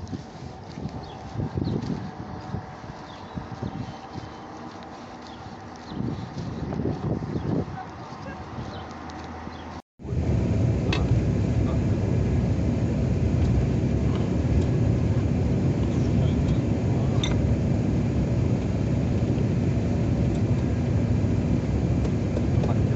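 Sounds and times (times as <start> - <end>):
vehicle engine and road noise: 0.0 - 22.9.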